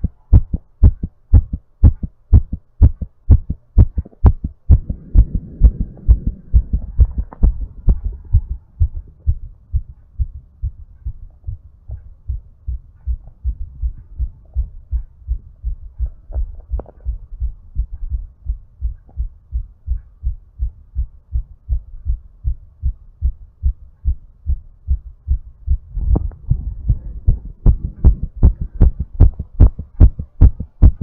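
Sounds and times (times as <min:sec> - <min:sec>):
fast human heartbeat: 0:00.0 - 0:31.0.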